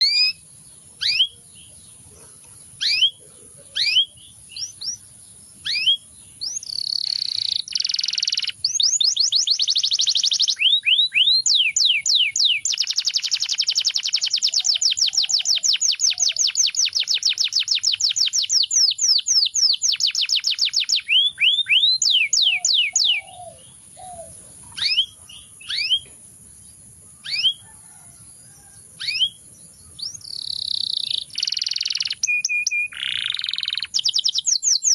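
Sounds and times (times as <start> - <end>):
canary singing: 0.0 - 26.2, 26.8 - 34.9.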